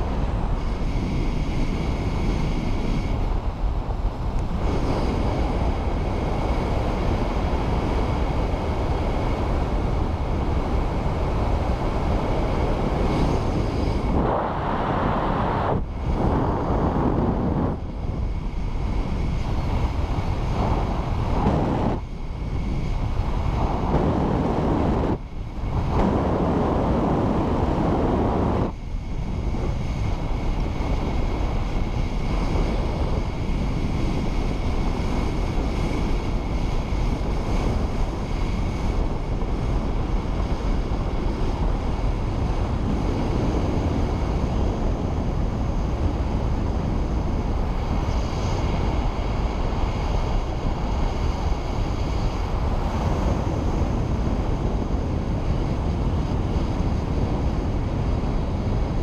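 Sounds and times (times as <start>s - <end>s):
faint high whine: 0.0s - 59.0s
wind rushing over microphone: 0.0s - 59.0s.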